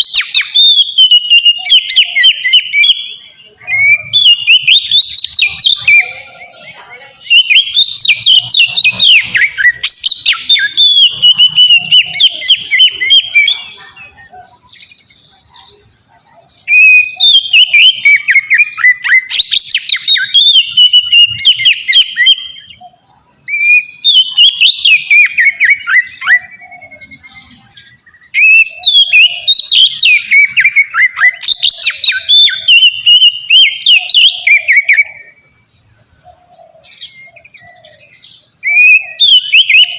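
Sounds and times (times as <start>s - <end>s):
bird singing whistled phrases: 0.0s - 35.6s, 36.6s - 39.9s.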